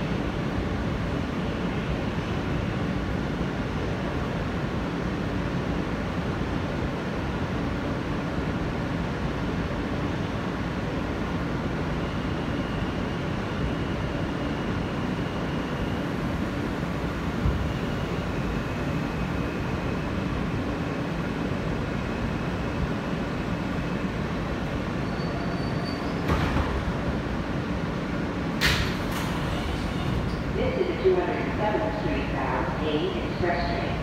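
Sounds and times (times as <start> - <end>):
subway car rumble and hum: 0.0 - 34.0.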